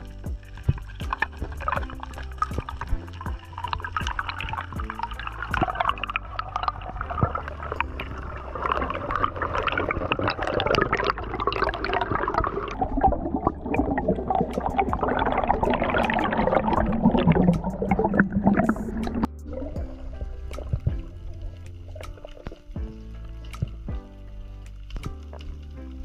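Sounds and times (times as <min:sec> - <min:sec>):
water gurgling and bubbling: 0:00.0 - 0:22.6.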